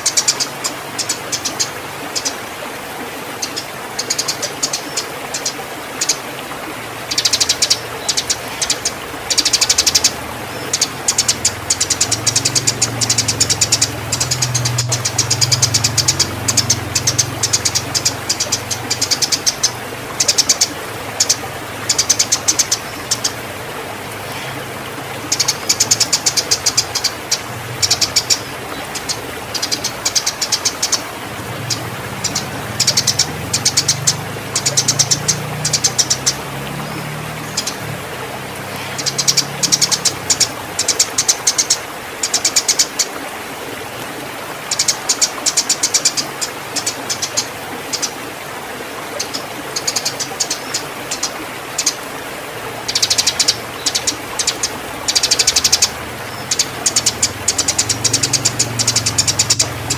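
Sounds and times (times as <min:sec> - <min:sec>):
sparrows chirping: 0:00.0 - 0:02.4, 0:03.4 - 0:06.2, 0:07.1 - 0:23.4, 0:25.2 - 0:37.9, 0:38.6 - 0:42.9, 0:44.7 - 0:48.1, 0:49.2 - 0:52.0, 0:52.8 - 0:59.9.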